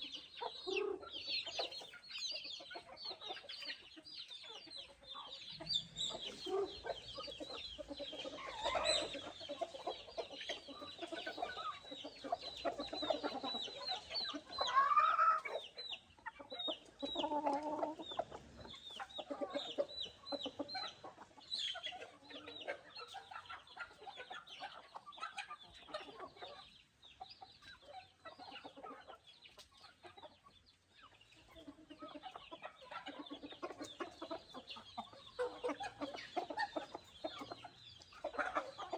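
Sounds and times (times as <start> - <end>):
chickens clucking: 0.0 - 38.9
drawn-out chicken call: 0.0 - 38.9.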